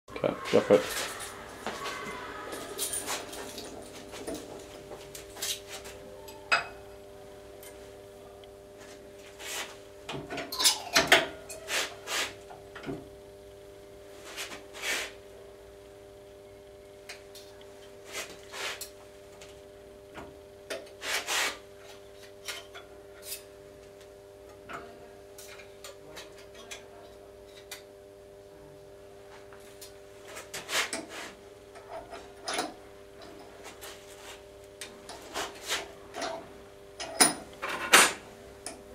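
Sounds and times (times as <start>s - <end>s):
steady low hum: 0.1s - 38.9s.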